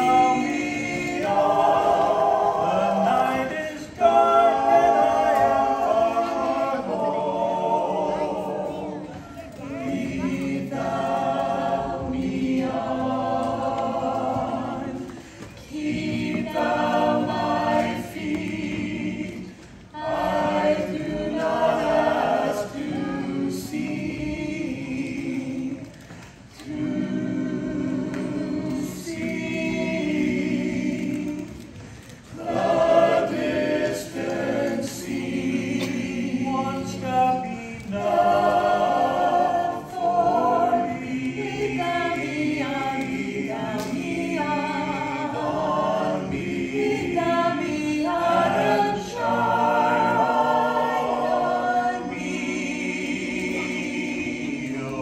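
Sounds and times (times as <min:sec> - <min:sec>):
choir singing a cappella hymn: 0:00.0 - 0:55.0.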